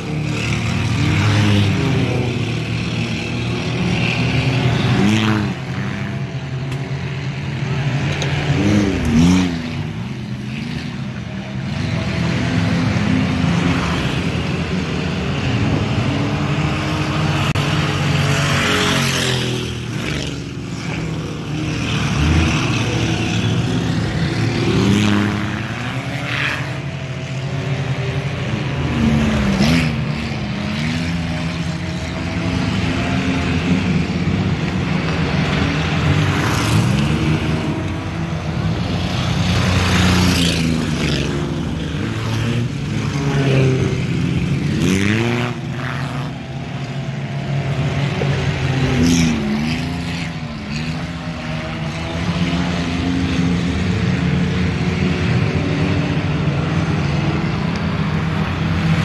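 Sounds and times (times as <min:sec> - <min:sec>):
racing car engines revving: 0:00.0 - 0:59.0.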